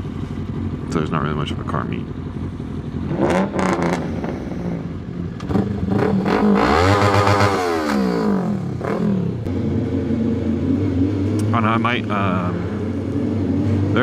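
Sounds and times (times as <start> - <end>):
vehicle engine idling and revving: 0.0 - 14.0.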